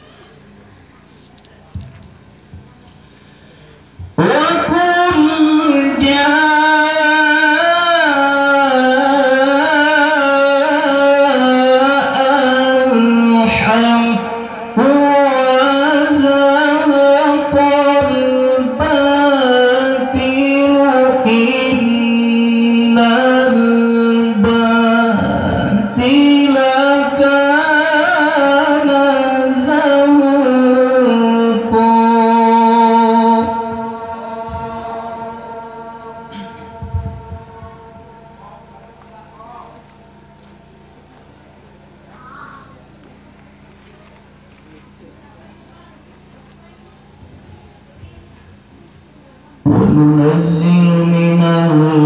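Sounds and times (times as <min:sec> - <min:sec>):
man chanting through a microphone: 0:00.0 - 0:43.0, 0:49.2 - 0:52.0.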